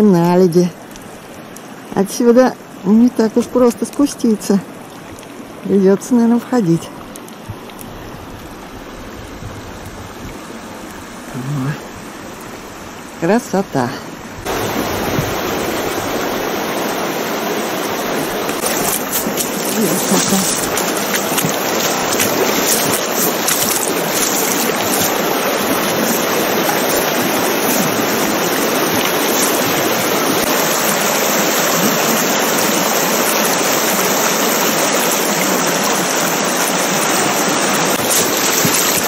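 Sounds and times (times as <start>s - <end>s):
creek rushing over gravel: 0.0s - 11.8s, 14.4s - 39.0s.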